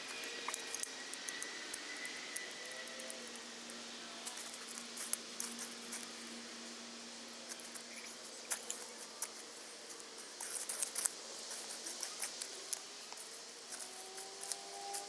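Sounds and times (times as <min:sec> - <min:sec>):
sharp clicks and crackles: 0:00.0 - 0:06.2, 0:07.5 - 0:15.0.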